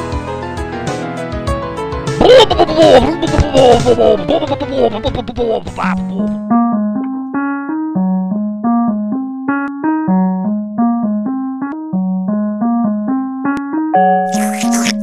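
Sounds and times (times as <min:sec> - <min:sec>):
piano keyboard music: 0:00.0 - 0:15.0.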